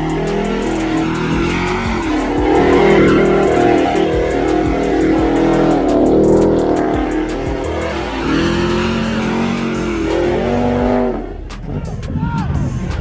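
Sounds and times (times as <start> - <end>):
background music with steady beat: 0.0 - 13.0
car engine revving: 0.0 - 13.0.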